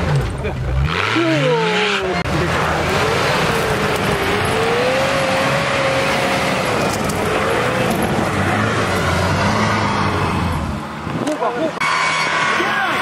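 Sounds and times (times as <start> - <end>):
engine working hard under load: 0.0 - 13.0.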